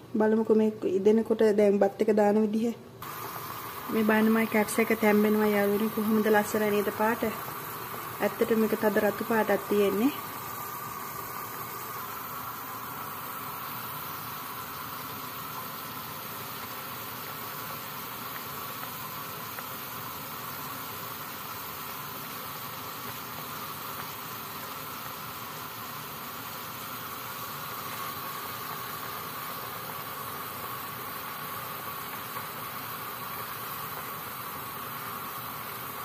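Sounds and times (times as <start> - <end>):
broth boiling in a pot: 3.0 - 36.0.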